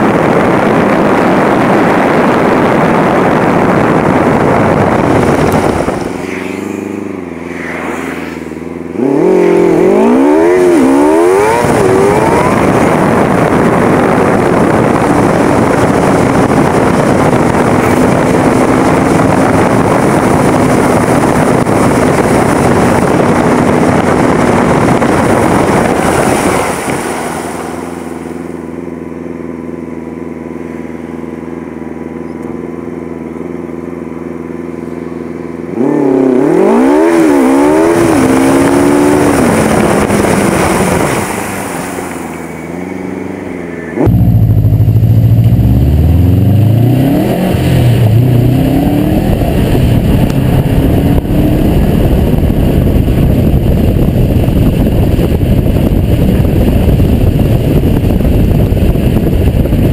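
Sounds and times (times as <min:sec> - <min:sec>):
tyre noise on wet road: 0:00.0 - 0:31.8, 0:32.6 - 0:59.9
car engine revving: 0:00.0 - 0:58.1.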